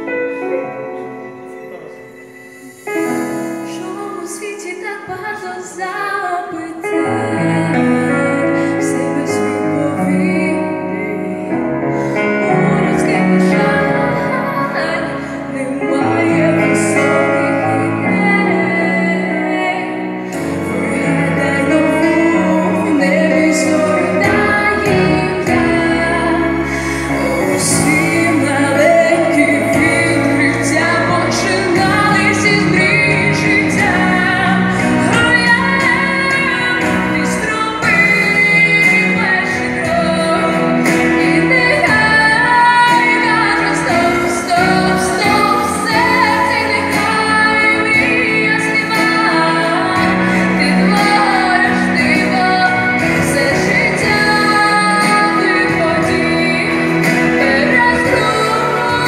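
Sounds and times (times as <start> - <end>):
instrumental accompaniment: 0.0 - 59.0
woman singing pop song: 2.6 - 59.0.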